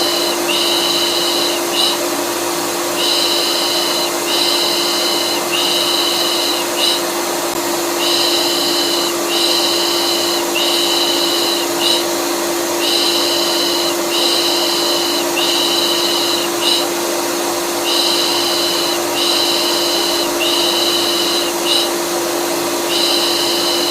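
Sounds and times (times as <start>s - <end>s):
vacuum cleaner humming: 0.0s - 23.9s.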